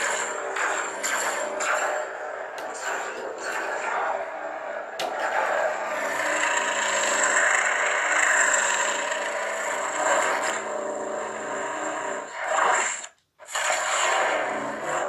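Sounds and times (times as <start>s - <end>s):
lightsaber electronic hum: 0.0s - 12.7s.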